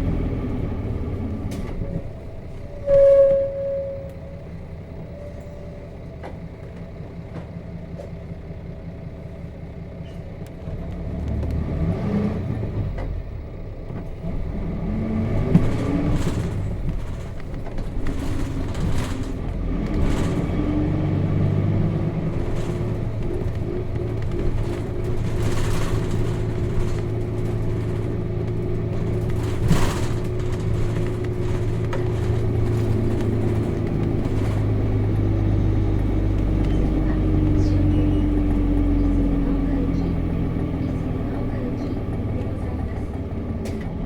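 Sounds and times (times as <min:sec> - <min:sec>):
bus diesel engine accelerating: 0:00.0 - 0:44.0.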